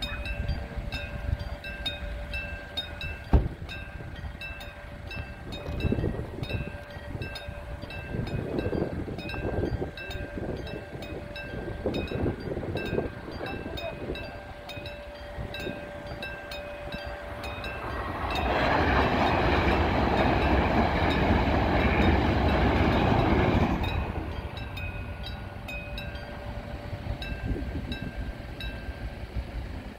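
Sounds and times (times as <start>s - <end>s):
level-crossing warning bell: 0.0s - 29.9s
train wheels rushing on rail: 0.0s - 29.9s.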